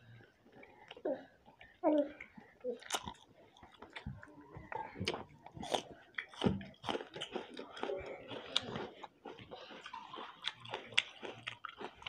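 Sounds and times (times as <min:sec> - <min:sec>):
people chewing with lip smacks: 0:00.0 - 0:12.0.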